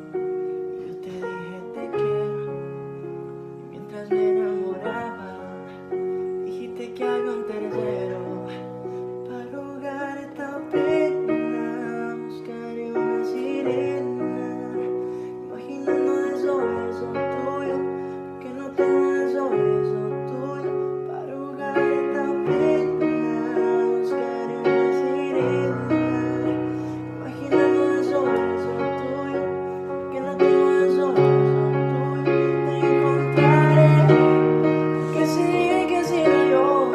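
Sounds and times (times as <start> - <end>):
piano chords: 0.0 - 36.9.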